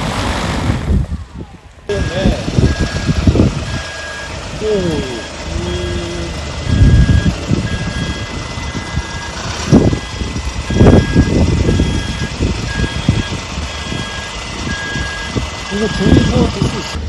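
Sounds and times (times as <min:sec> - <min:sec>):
wind buffeting microphone: 0:00.0 - 0:17.0
electronic beep: 0:01.9 - 0:16.8.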